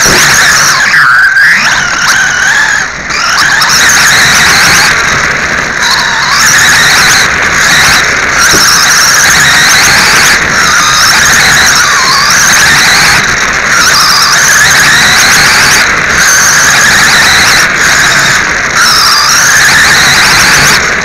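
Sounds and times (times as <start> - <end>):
toy car motor and gear whine: 0.0 - 21.0.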